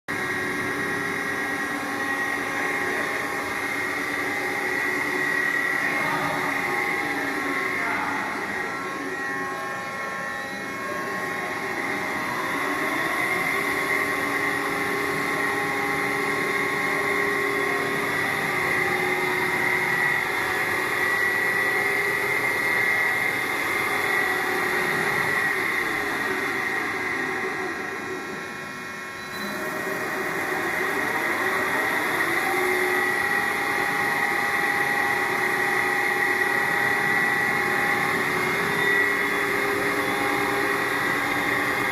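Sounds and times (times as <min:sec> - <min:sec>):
lathe motor whine: 0:00.1 - 0:41.9.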